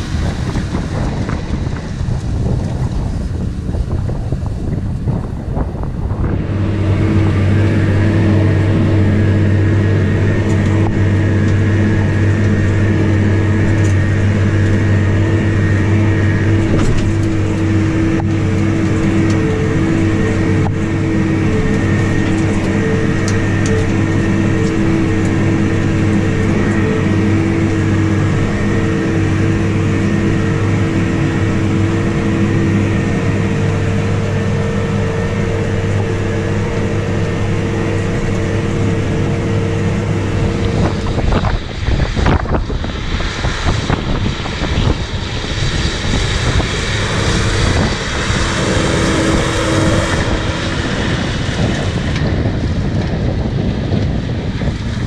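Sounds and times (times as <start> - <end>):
steady whine: 0.0 - 55.0
tractor diesel engine drone: 0.0 - 55.0.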